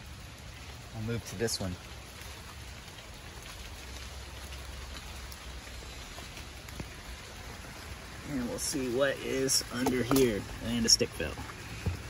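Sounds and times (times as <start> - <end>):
rain falling on leaves: 0.0 - 12.0.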